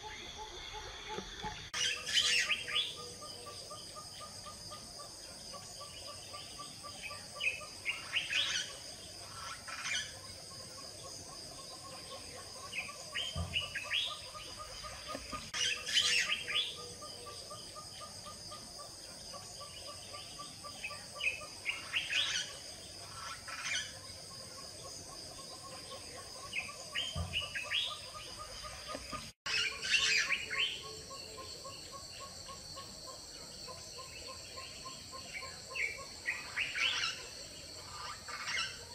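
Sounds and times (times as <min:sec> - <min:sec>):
high insect drone: 0:00.0 - 0:38.9.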